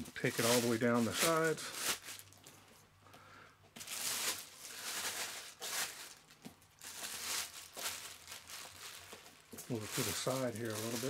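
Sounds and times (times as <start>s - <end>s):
plastic bag crinkling: 0.0s - 2.6s, 3.8s - 11.0s.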